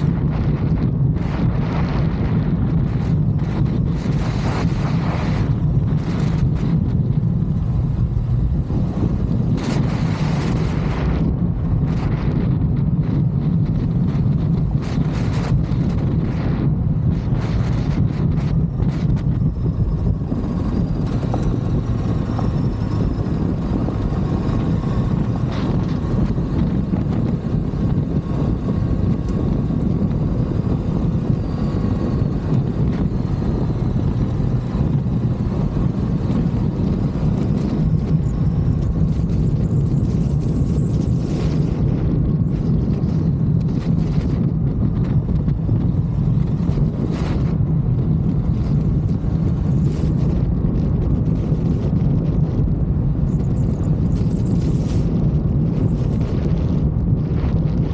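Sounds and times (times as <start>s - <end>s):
motorcycle engine running: 0.0s - 57.9s
wind noise on microphone: 0.0s - 57.9s.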